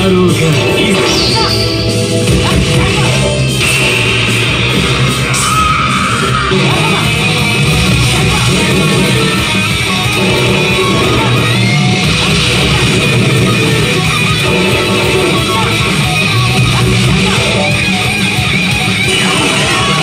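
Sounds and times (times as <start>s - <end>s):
hard rock with electric guitar: 0.3s - 20.0s.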